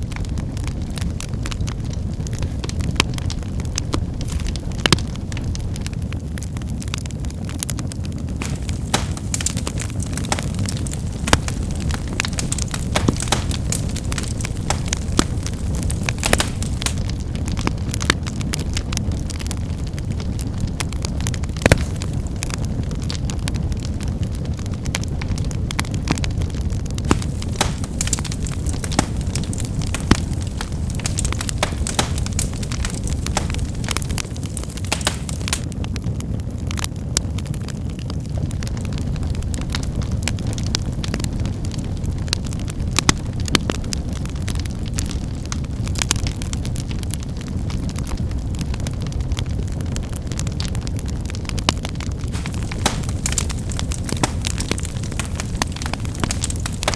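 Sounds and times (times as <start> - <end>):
firewood crackling and popping: 0.0 - 56.9
wood fire rumbling: 0.0 - 56.9.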